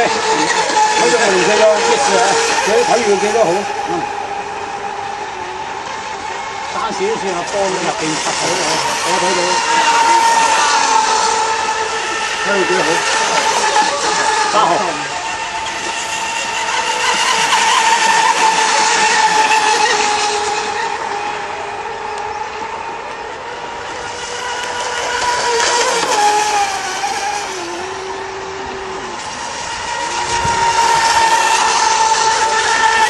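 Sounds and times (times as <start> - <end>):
model boat engines whining: 0.0 - 33.0.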